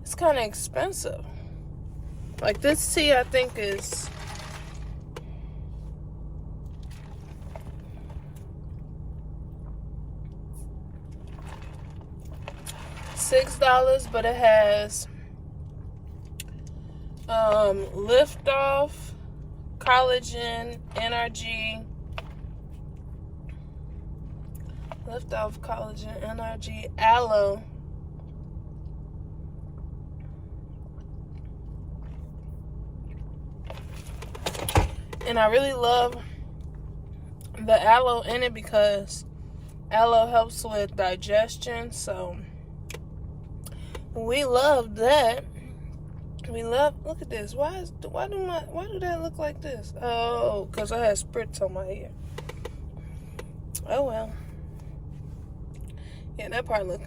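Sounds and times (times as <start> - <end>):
car cabin hum: 0.0 - 57.0.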